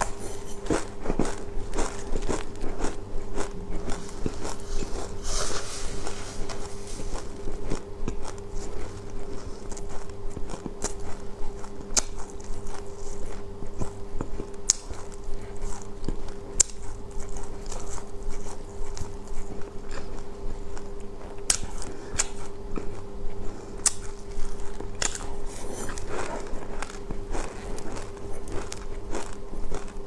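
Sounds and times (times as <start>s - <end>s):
chewing and crunching seeds: 0.0s - 30.0s
steady low hum: 0.0s - 30.0s.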